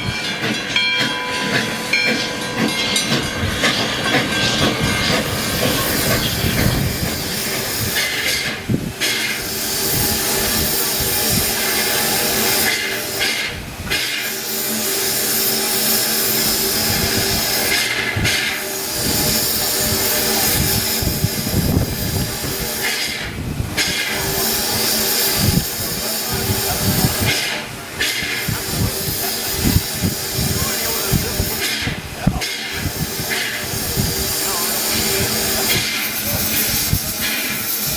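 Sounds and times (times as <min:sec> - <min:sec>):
steam locomotive hissing: 0:00.0 - 0:37.9.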